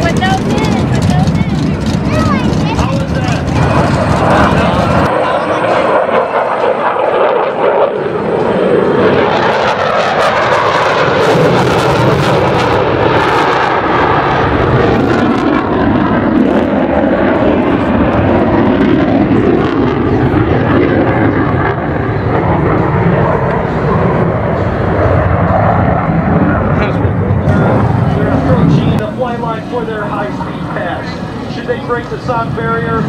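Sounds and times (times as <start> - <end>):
jet engines roaring in low pass: 0.0 - 33.0.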